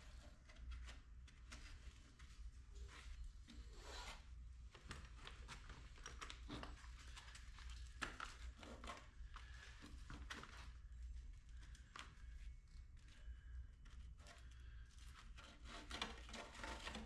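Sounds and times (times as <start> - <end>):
faint rustling: 0.0 - 17.0
low steady hum: 0.0 - 17.0.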